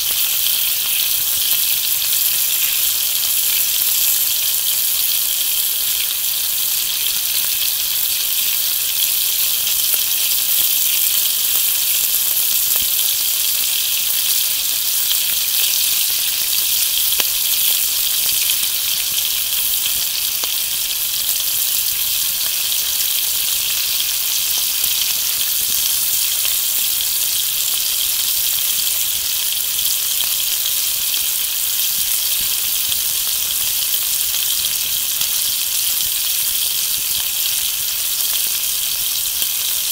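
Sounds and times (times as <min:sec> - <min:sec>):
bacon sizzling in a skillet: 0:00.0 - 0:39.9.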